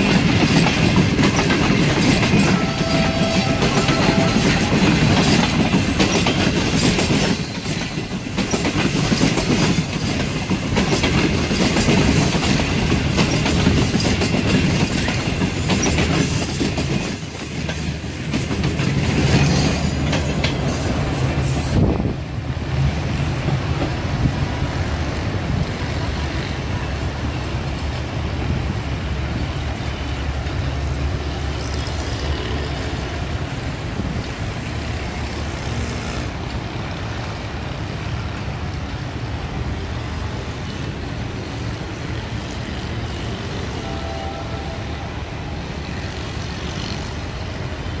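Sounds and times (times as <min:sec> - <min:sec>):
train rumbling on track: 0:00.0 - 0:48.0.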